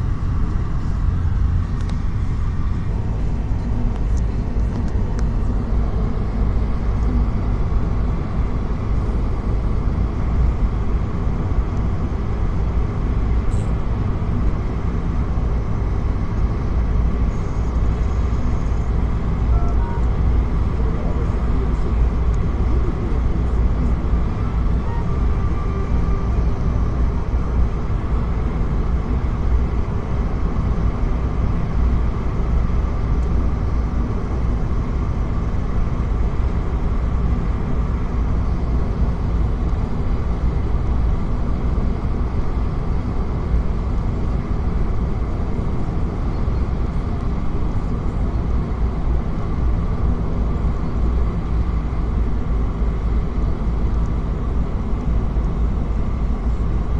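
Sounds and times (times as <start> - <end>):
car engine and road noise: 0.0 - 56.9.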